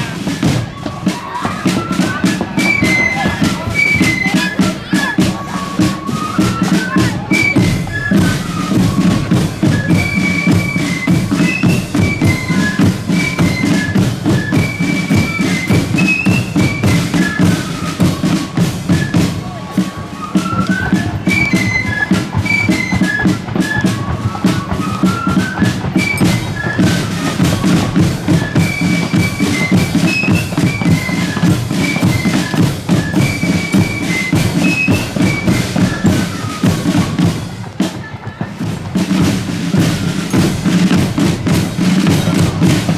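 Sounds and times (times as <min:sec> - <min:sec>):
high flute melody: 0:00.0 - 0:42.9
side drums and bass drum beat: 0:00.0 - 0:42.9.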